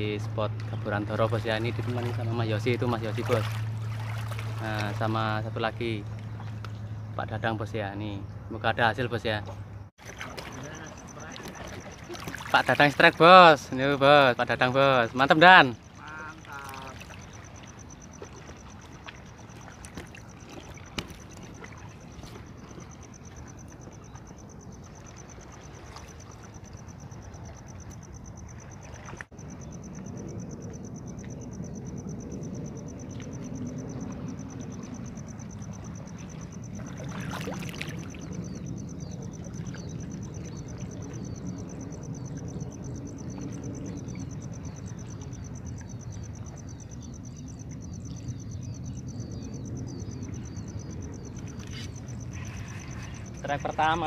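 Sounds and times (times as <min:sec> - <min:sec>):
choppy water: 0:00.0 - 0:54.0
wind rumbling on microphone: 0:09.4 - 0:54.0.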